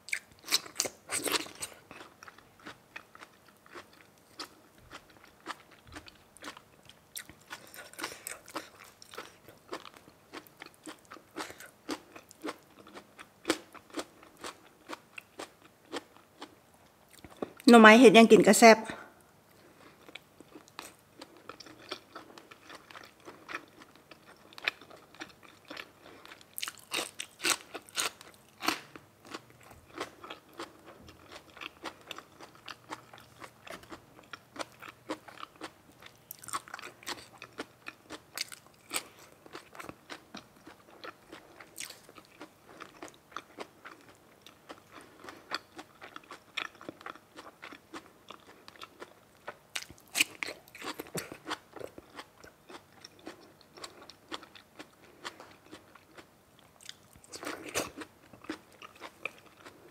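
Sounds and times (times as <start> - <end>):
person chewing and crunching food: 0.0 - 17.6, 19.5 - 59.9.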